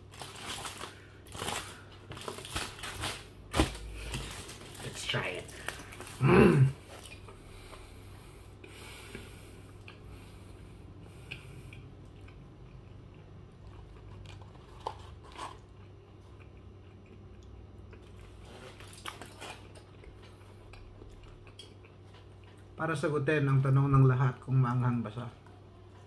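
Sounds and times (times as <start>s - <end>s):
steady low hum: 0.0s - 26.0s
person chewing: 0.1s - 22.8s.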